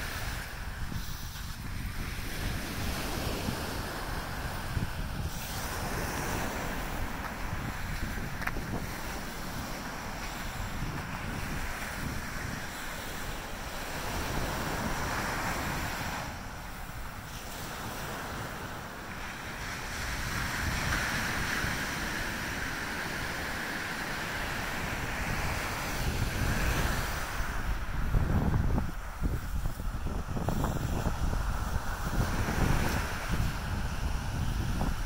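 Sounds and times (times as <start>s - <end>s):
ocean surf breaking on sand: 0.0s - 35.0s
wind rumbling on microphone: 0.0s - 35.0s.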